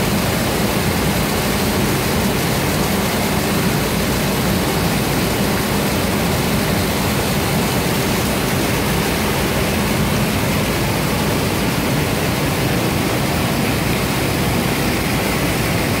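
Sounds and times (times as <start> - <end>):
water gushing onto metal grating: 0.0 - 16.0.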